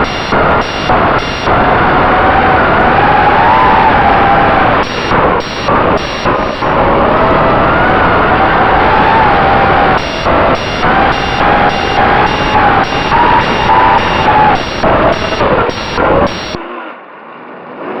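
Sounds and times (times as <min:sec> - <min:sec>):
electronic beeping: 0:00.0 - 0:16.7
loud steady wavering noise: 0:00.0 - 0:16.8.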